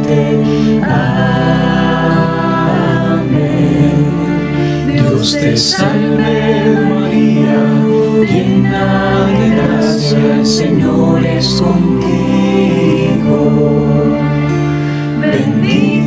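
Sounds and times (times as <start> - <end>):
voices singing devotional song: 0.0 - 16.0.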